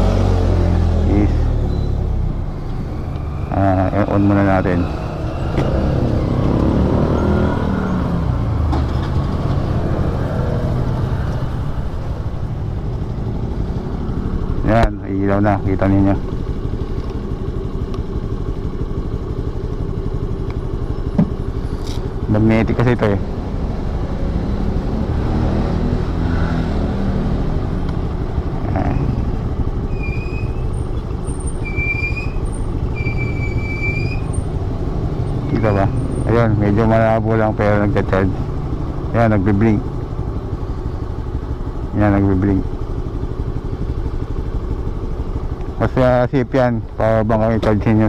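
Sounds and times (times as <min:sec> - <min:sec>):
scooter engine idling: 0:00.8 - 0:24.8, 0:27.2 - 0:48.0.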